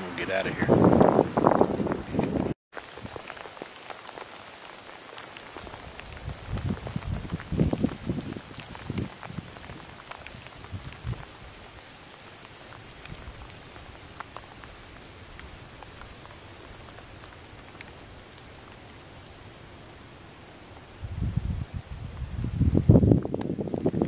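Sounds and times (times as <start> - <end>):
rain falling on leaves: 0.0 - 24.0.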